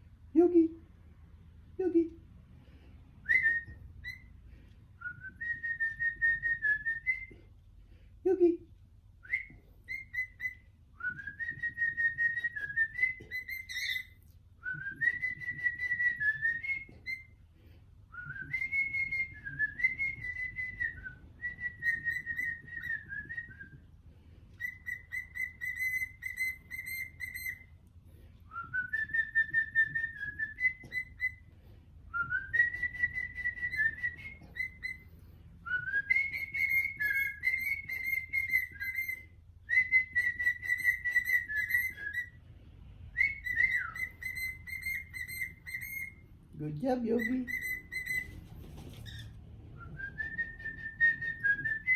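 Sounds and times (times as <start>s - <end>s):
cockatiel whistling: 3.2s - 4.3s, 5.0s - 7.3s, 9.2s - 17.4s, 18.1s - 23.9s, 24.5s - 27.8s, 28.5s - 31.5s, 32.1s - 42.4s, 43.1s - 46.3s, 47.1s - 51.9s.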